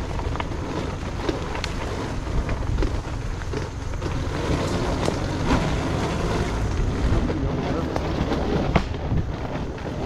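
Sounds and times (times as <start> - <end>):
low engine rumble: 0.0 - 10.0
wind buffeting microphone: 0.0 - 10.0.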